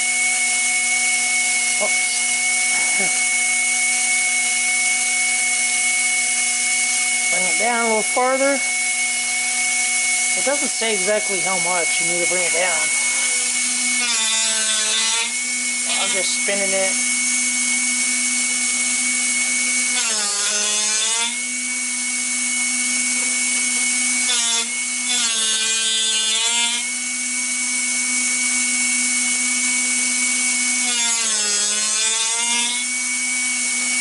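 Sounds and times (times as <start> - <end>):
drill bit sharpener motor whine: 0.0 - 34.0.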